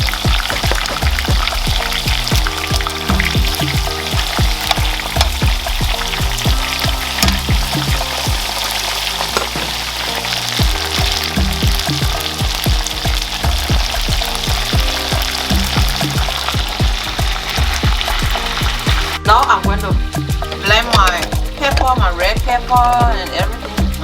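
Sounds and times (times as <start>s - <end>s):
chicken frying in oil: 0.0s - 19.5s
afrobeat music with bass beat: 0.0s - 24.0s.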